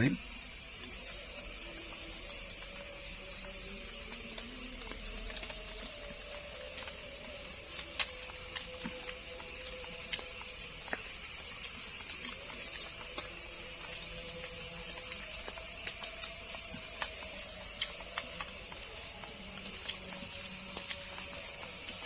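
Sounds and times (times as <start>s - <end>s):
clicks and taps of eating: 0.0s - 22.0s
night insects chirring: 0.0s - 22.0s.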